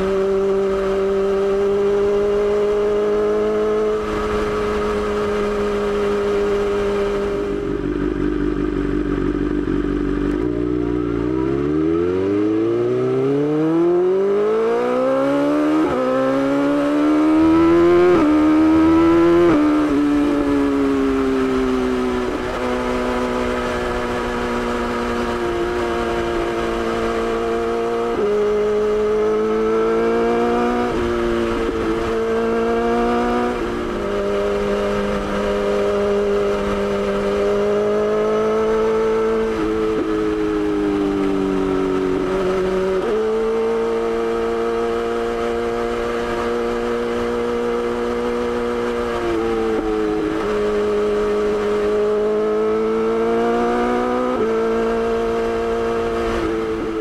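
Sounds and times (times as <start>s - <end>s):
motorcycle engine running: 0.0s - 14.0s, 17.4s - 57.0s.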